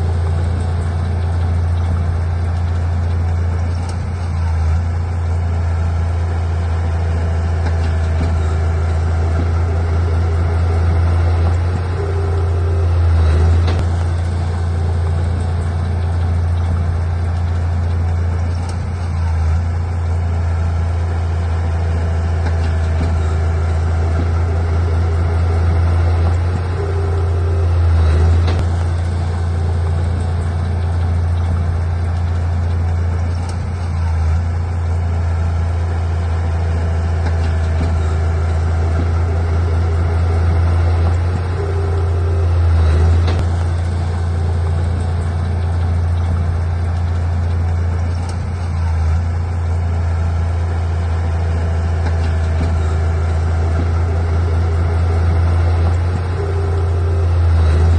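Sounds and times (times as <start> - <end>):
heavy diesel engine droning: 0.0 - 57.9.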